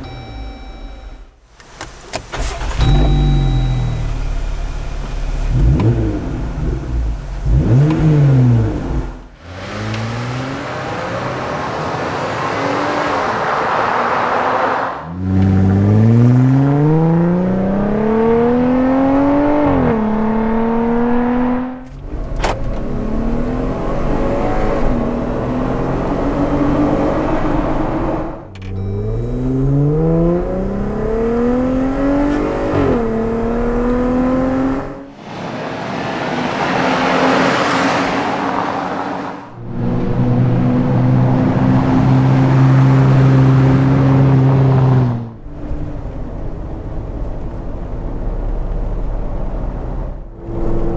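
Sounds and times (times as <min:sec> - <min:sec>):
car exhaust accelerating: 0:02.3 - 0:14.0, 0:15.1 - 0:50.9.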